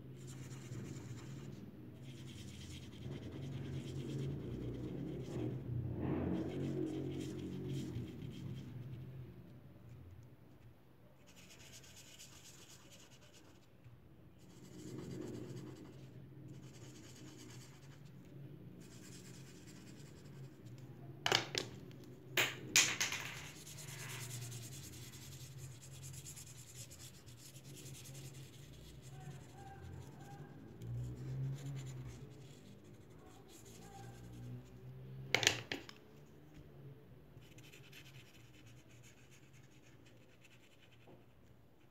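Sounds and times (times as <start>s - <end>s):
markers scratching on paper: 0.0s - 5.6s, 6.3s - 9.2s, 11.2s - 13.8s, 14.4s - 20.9s, 23.4s - 36.3s, 37.4s - 41.9s.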